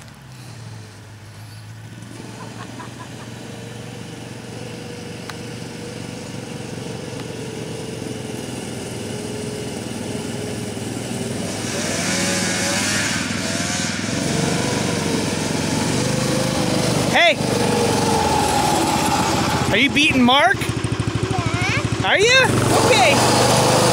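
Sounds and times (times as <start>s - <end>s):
snowmobile engine running: 0.0s - 23.9s.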